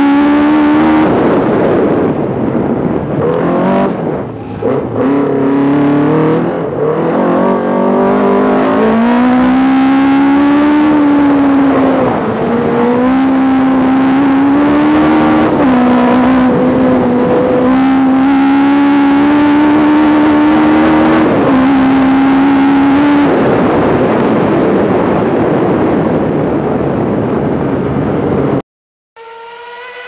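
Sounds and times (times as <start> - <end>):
car engine accelerating: 0.0 - 26.4, 29.2 - 30.0
loud even rushing noise: 0.0 - 28.6.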